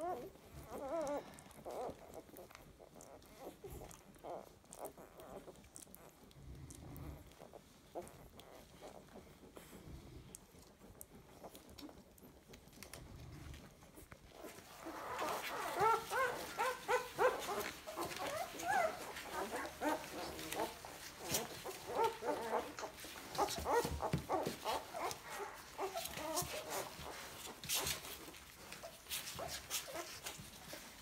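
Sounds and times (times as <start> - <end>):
puppies squeaking and whimpering: 0.0 - 31.0.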